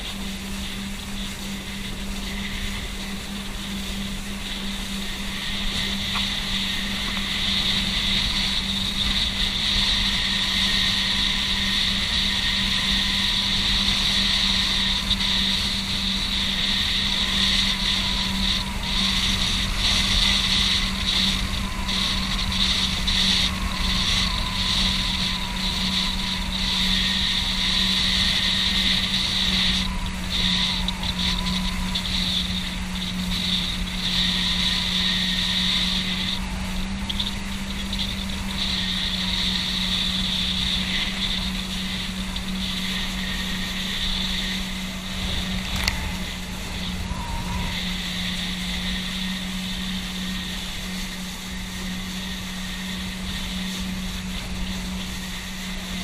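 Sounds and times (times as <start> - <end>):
boat engine running: 0.0 - 56.0
wind and water rushing: 0.0 - 56.0.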